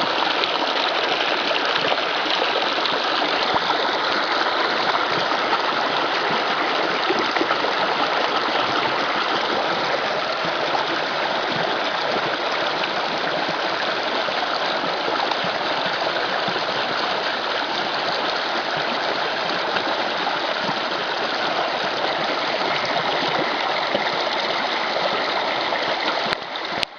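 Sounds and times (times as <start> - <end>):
creek water rushing and babbling: 0.0 - 26.9.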